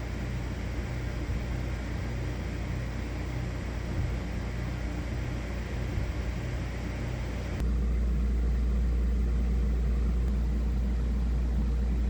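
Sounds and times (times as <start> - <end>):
air conditioners humming: 0.0 - 12.0.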